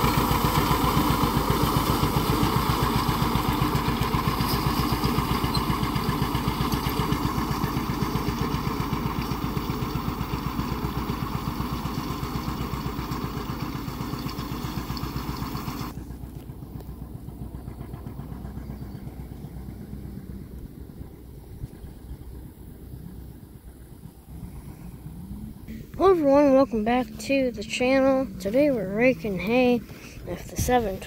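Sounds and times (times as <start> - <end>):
tractor engine pulsing: 0.0 - 31.0.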